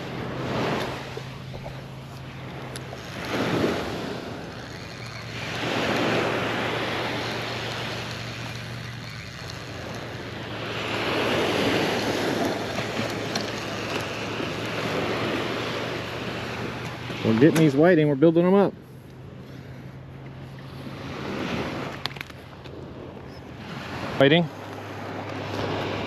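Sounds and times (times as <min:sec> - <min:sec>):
surf waves breaking on sand: 0:00.0 - 0:26.0.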